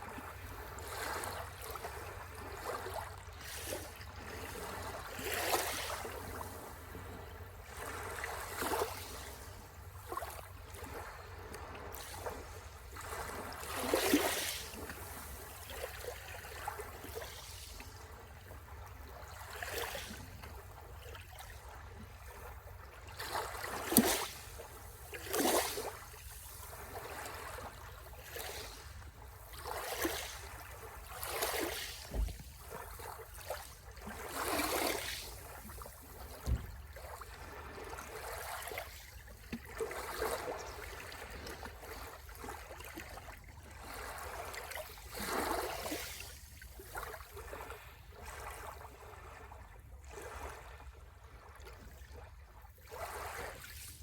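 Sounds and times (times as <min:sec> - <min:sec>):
small waves washing onto shore: 0:00.0 - 0:50.9, 0:52.8 - 0:54.0.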